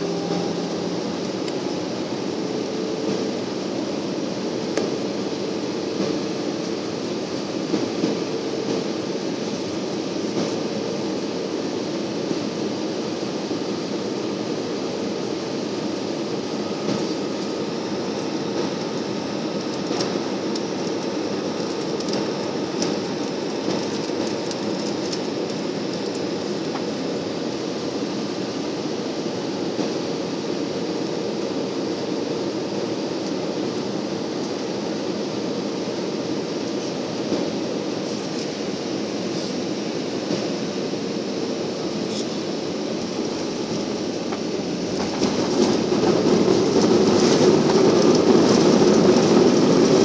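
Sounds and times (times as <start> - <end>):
airliner cabin air rush: 0.0 - 50.0
steady low hum: 0.0 - 50.0.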